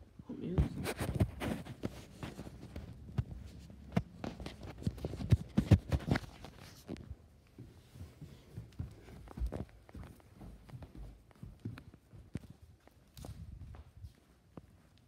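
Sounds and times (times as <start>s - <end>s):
footsteps thumping: 0.6s - 13.9s.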